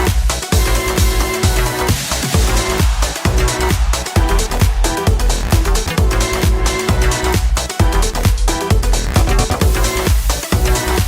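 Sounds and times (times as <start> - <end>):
electronic dance music: 0.0 - 11.0
pounding kick drum: 0.0 - 11.0.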